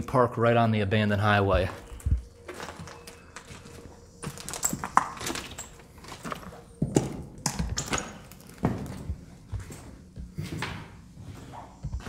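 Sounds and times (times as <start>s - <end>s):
footsteps on concrete floor: 1.0s - 12.0s.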